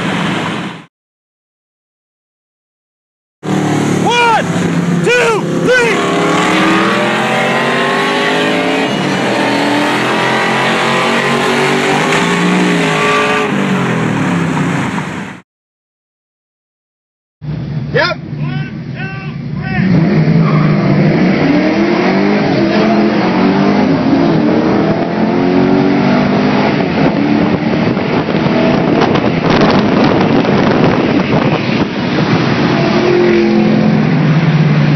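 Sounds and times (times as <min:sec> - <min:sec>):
road and wind rush: 0:00.0 - 0:00.9, 0:03.4 - 0:15.4, 0:17.4 - 0:34.9
engines at wide-open throttle: 0:03.4 - 0:15.4, 0:17.4 - 0:34.9.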